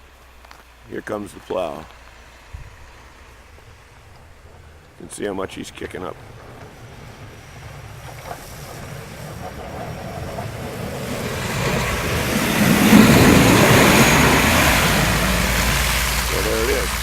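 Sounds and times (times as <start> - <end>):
snowplow truck engine: 0.0 - 17.0
snow rushing off plow blade: 1.1 - 17.0.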